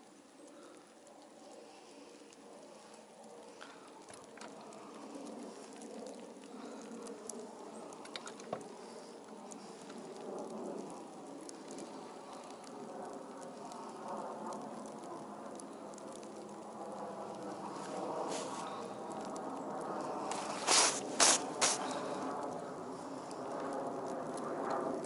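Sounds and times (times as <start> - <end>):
snow pattering: 0.0 - 25.0.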